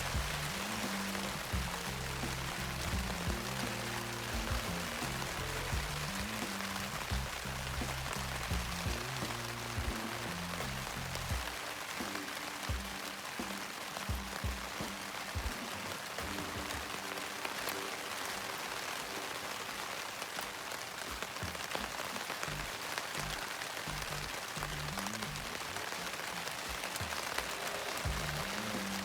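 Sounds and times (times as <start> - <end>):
background music: 0.0 - 29.0
steady rain falling: 0.0 - 29.0.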